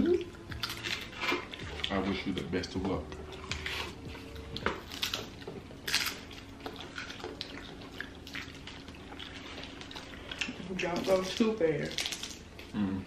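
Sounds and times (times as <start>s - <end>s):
crunchy taco shells being chewed: 0.2s - 12.9s.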